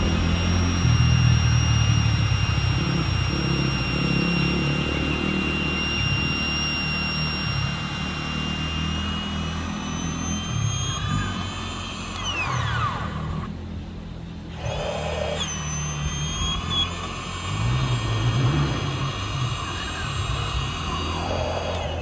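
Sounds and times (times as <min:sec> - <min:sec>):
small electric motor whining: 0:00.0 - 0:13.6, 0:14.4 - 0:22.0.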